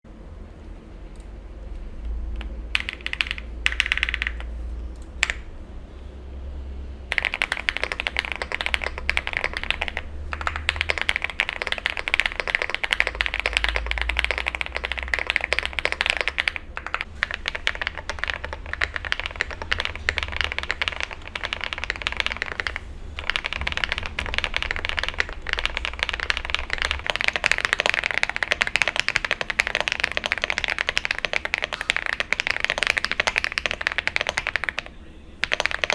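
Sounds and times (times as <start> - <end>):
mechanical keyboard typing: 2.3 - 5.5, 7.1 - 35.9.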